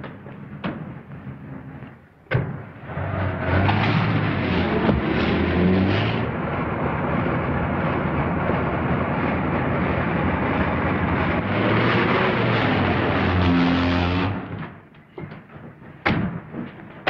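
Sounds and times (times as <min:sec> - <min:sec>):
car engine rumbling: 0:00.0 - 0:15.8.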